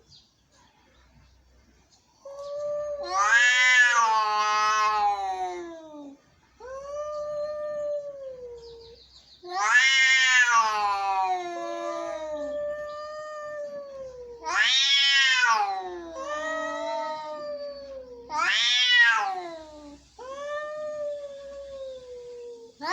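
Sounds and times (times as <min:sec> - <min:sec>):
cats caterwauling: 0:02.2 - 0:22.9.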